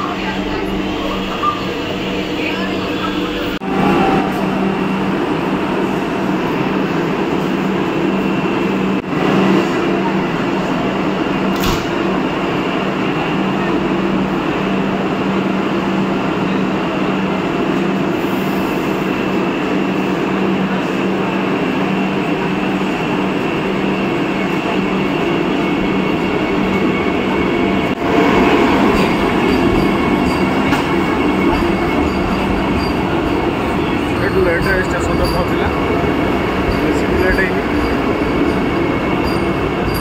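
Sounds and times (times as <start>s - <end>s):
train running with low hum: 0.0s - 40.0s.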